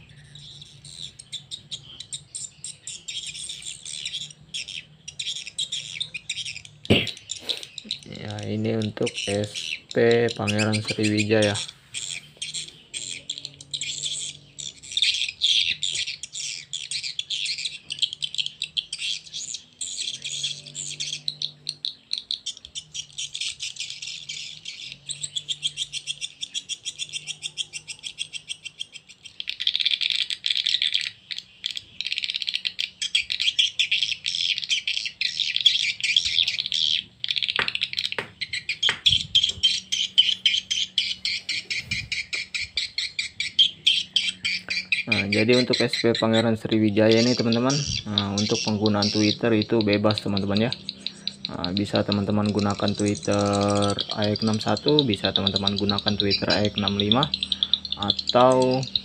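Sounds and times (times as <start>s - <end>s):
recorded bird chirping and twittering: 0.0s - 59.0s.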